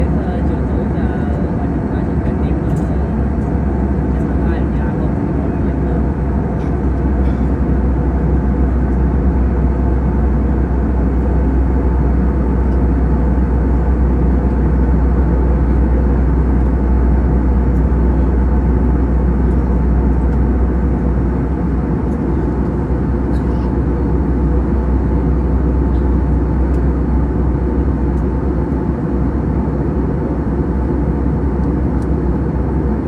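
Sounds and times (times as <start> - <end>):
airliner cabin engine drone: 0.0 - 33.0.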